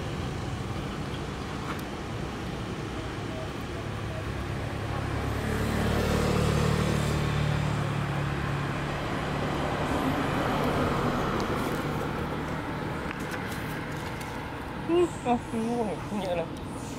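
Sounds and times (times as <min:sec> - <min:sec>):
vehicle engine passing: 0:02.6 - 0:16.9.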